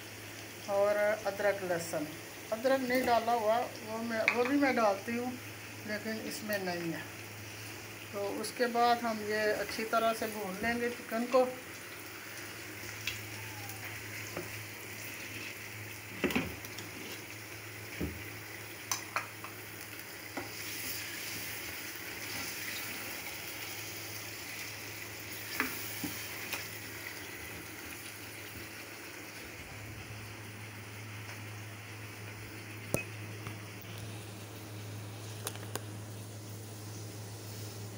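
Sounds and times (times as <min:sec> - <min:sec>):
food sizzling in frying pan: 0:00.0 - 0:37.9.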